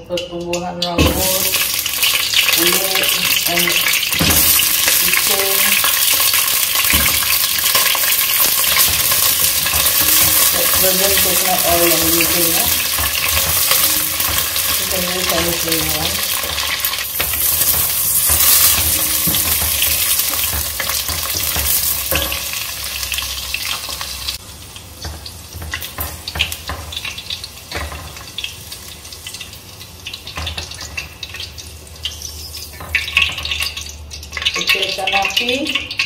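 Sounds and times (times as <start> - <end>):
okra sizzling in hot oil: 0.8 - 36.0.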